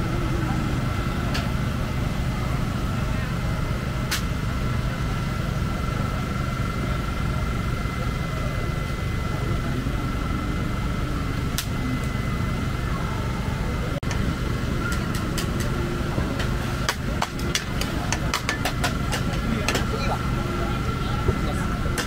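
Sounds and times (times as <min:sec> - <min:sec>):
high whine: 0:00.0 - 0:22.0
low machine hum: 0:00.0 - 0:22.0.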